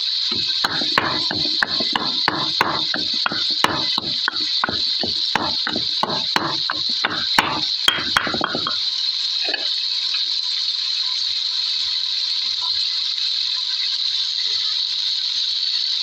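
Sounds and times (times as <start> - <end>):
loud cooking hiss: 0.0 - 16.0.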